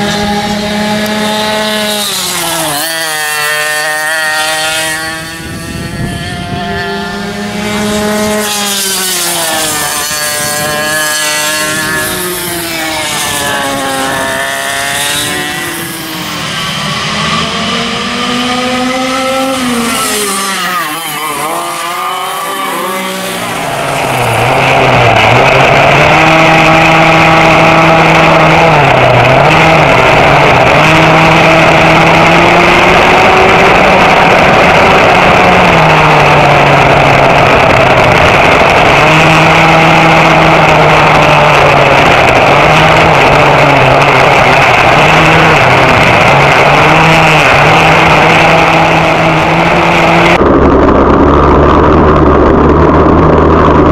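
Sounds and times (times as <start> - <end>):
go-kart engine close up: 0.0 - 53.9
go-karts racing past: 0.0 - 53.9.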